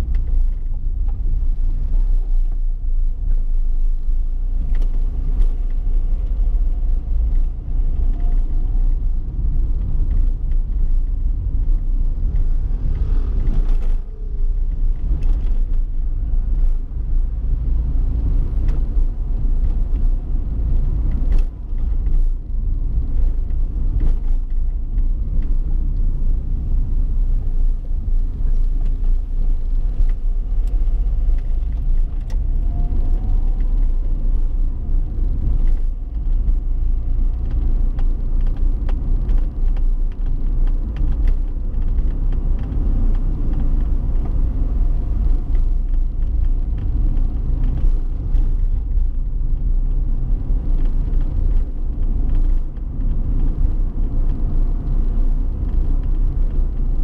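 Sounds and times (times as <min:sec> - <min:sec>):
vehicle driving rumble: 0:00.0 - 0:57.0.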